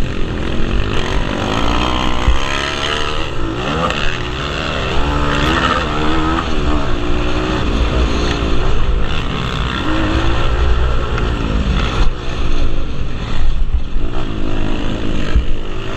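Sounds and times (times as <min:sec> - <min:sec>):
pit bike engines revving: 0:00.0 - 0:15.9.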